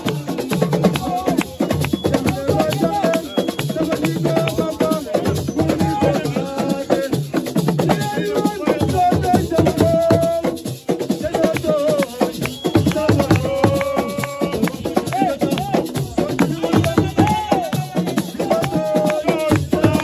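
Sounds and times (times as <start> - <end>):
fast dense drumming: 0.0 - 20.0
people singing: 0.0 - 20.0
rattling shakers: 0.0 - 20.0.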